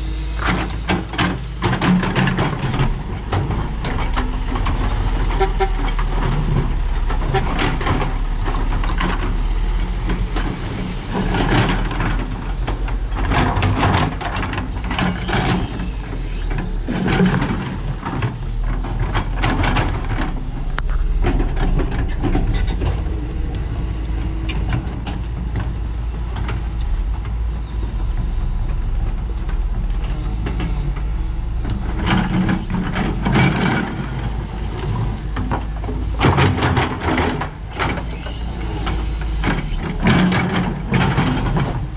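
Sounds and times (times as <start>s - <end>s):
hissing and clatter: 0.0s - 23.6s, 28.6s - 41.9s
excavator diesel engine running: 0.0s - 41.9s.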